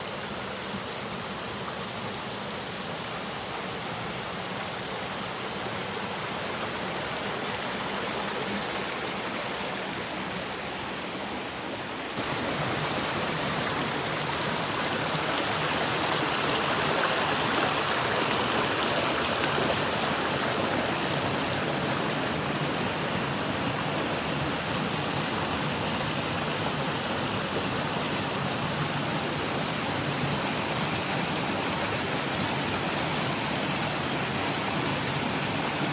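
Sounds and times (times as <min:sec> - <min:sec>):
stream rushing water: 0:00.0 - 0:35.9.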